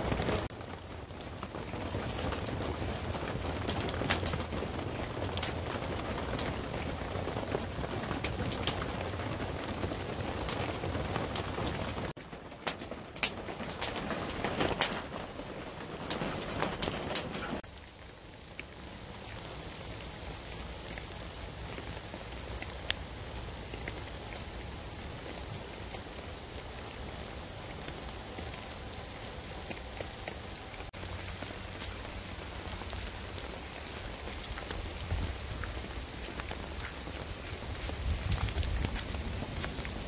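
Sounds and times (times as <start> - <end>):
rain on canvas: 0.0 - 40.0
single raindrops: 0.0 - 40.0.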